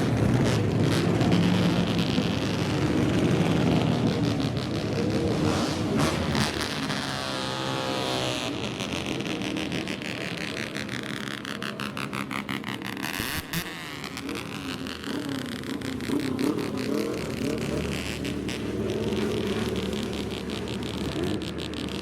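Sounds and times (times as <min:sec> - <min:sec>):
car engine and exhaust: 0:00.0 - 0:22.0.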